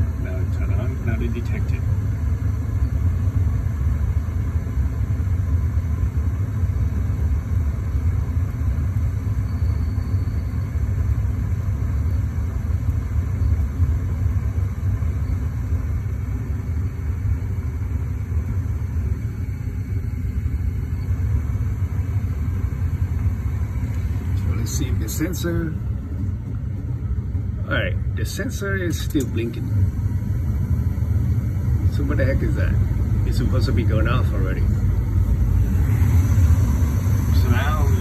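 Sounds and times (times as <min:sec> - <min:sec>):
draft inducer fan: 0:00.0 - 0:38.0
gas furnace combustion rumble: 0:00.0 - 0:38.0.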